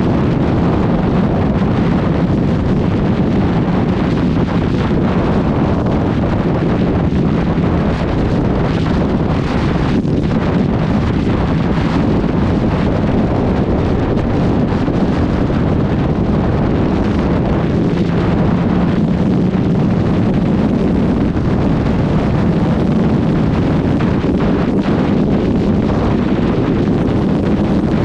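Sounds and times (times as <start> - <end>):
motorcycle engine drone: 0.0 - 28.0
wind roar on microphone: 0.0 - 28.0.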